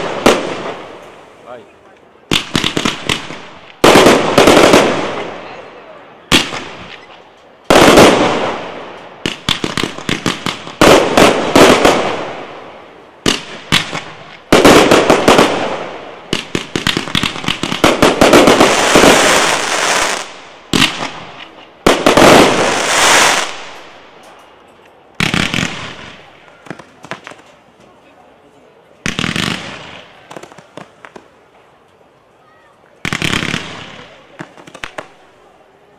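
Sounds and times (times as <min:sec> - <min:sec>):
firework bangs: 0:00.0 - 0:01.5, 0:02.2 - 0:05.7, 0:06.3 - 0:24.4, 0:25.2 - 0:27.6, 0:29.0 - 0:31.4, 0:33.0 - 0:35.3
firework pops and crackles: 0:02.3 - 0:05.4, 0:06.3 - 0:12.6, 0:13.2 - 0:27.8, 0:29.0 - 0:32.0, 0:32.8 - 0:35.3.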